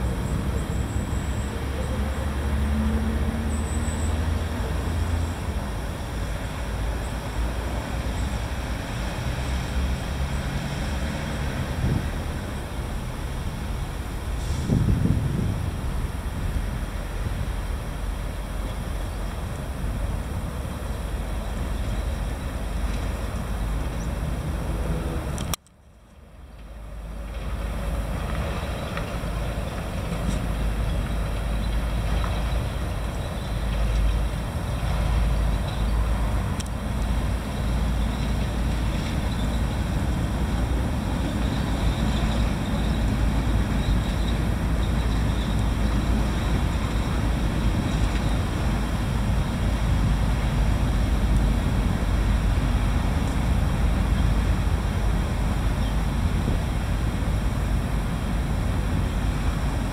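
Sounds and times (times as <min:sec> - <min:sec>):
low rumbling background noise: 0:00.0 - 0:59.9.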